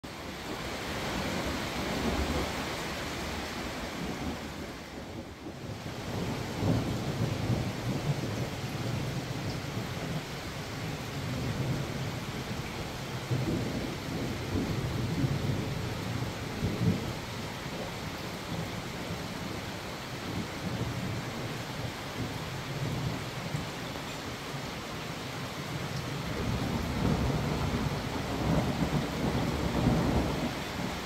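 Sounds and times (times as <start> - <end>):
steady rain: 0.0 - 31.0
distant rolling thunder: 0.4 - 24.4, 25.6 - 31.0.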